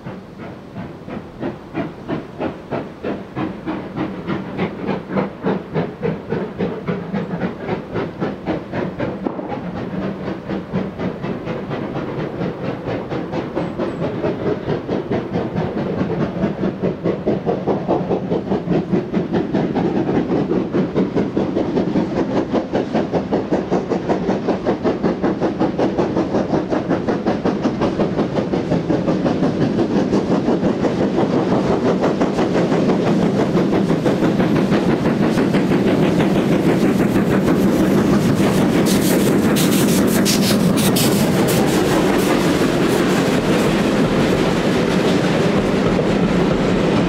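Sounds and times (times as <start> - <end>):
steam locomotive exhaust beats: 0.0 - 47.0
train clatter: 0.0 - 47.0.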